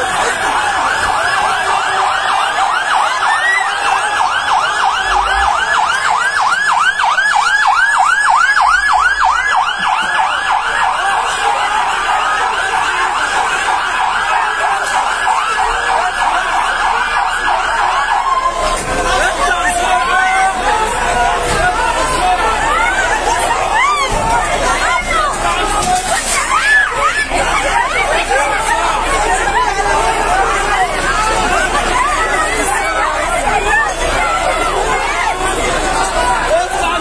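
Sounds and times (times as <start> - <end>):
fire engine siren yelping: 0.0 - 37.0.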